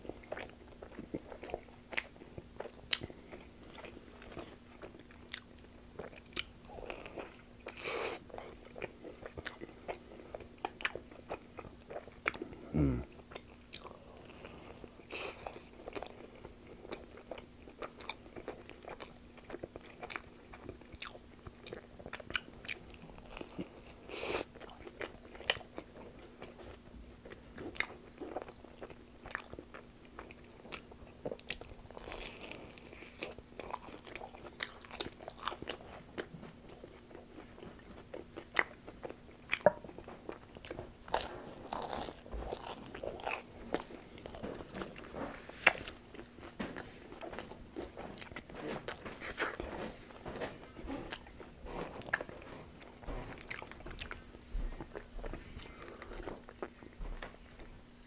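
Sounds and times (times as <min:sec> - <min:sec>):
faint steady hum: 0:00.0 - 0:58.0
chewing with wet mouth clicks: 0:00.1 - 0:12.5, 0:13.2 - 0:51.3.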